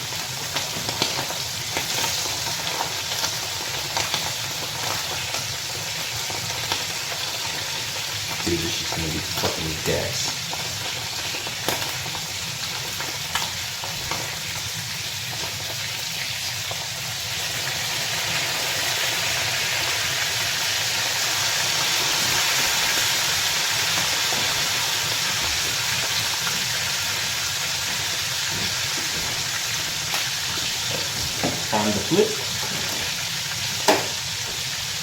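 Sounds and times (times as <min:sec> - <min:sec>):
fish sizzling in a pan: 0:00.0 - 0:35.0.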